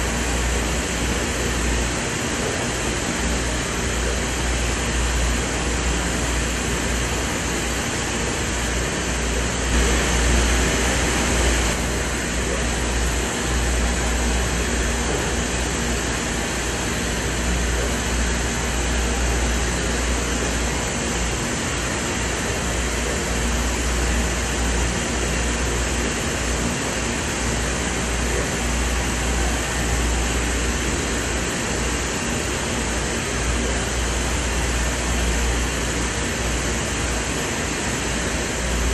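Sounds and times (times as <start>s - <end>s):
printer running with hum: 0.0s - 38.9s.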